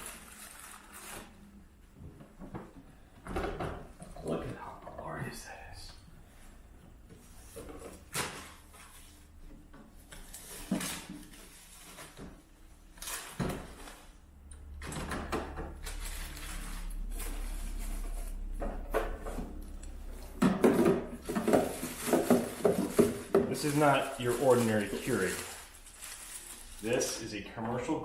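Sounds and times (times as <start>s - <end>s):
low steady hum: 0.2s - 28.0s.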